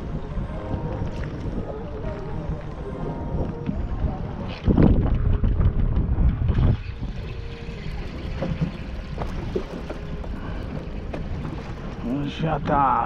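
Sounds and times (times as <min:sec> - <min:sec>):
sea noise: 0:00.0 - 0:13.0
wind: 0:00.0 - 0:13.0
wind buffeting microphone: 0:00.0 - 0:13.0.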